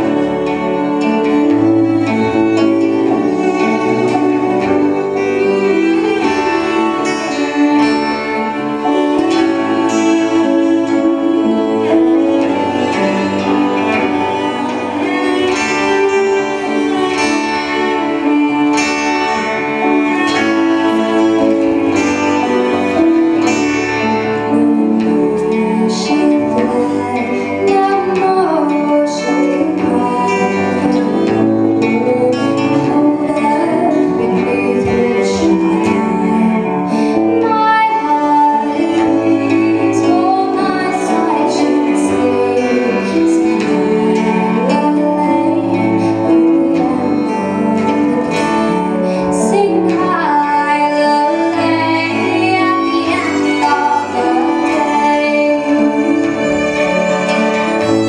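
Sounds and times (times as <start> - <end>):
folk song on plucked strings: 0.0 - 58.0
woman singing: 0.0 - 58.0.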